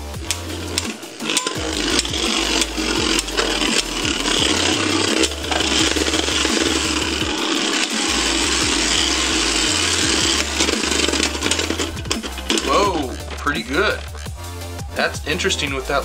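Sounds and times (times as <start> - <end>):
spinning tops clacking together: 0.0 - 14.4
spinning tops whirring and rattling: 0.0 - 16.0.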